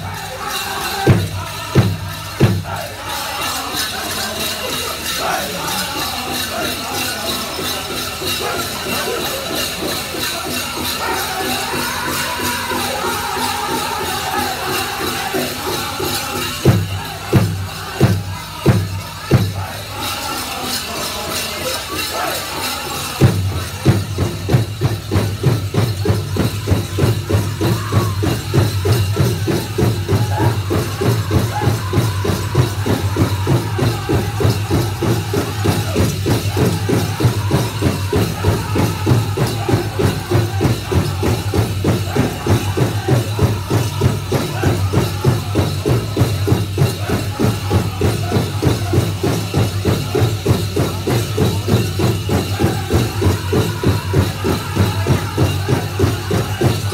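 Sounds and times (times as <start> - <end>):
bells jingling: 0.0 - 56.9
large drum fast beat: 0.0 - 56.9
singers' voices: 0.0 - 56.9.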